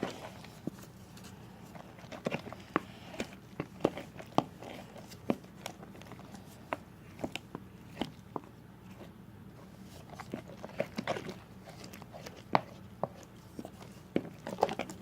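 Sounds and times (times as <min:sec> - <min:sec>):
slime squelching in a bowl: 0:00.0 - 0:15.0.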